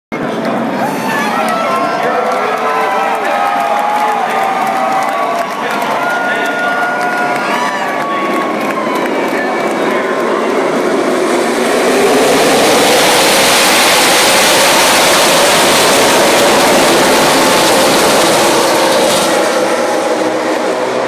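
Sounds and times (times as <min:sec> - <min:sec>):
race cars roaring past: 0:00.2 - 0:21.0.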